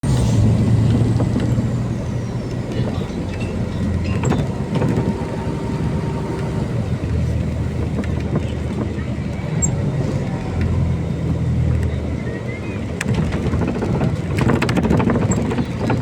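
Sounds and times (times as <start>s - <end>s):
bus engine drone: 0.0s - 16.0s
rattles and clicks: 0.0s - 16.0s.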